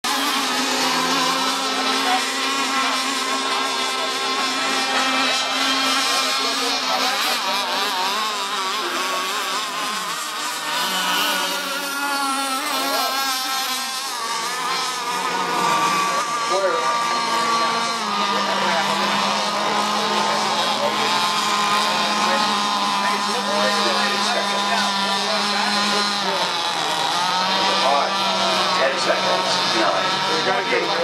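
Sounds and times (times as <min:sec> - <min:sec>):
racing boat motors whining: 0:00.0 - 0:31.0.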